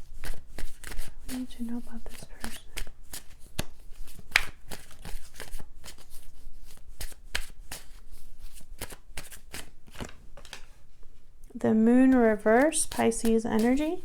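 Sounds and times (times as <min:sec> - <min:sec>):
cards being shuffled: 0:00.0 - 0:11.2, 0:11.9 - 0:14.0.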